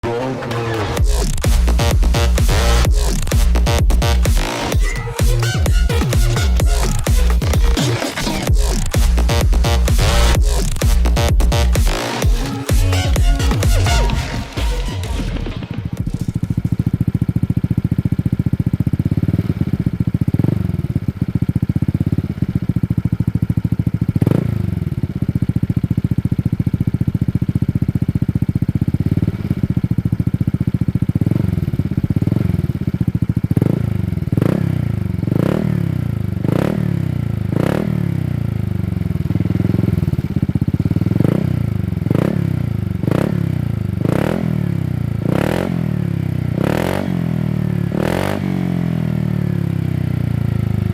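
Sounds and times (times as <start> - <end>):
scooter engine idling and revving: 0.0 - 50.9.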